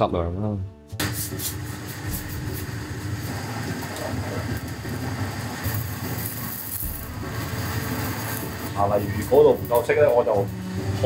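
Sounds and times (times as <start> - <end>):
extraction fan drone: 1.0 - 11.0
faint crackles of roasting coals: 1.6 - 11.0.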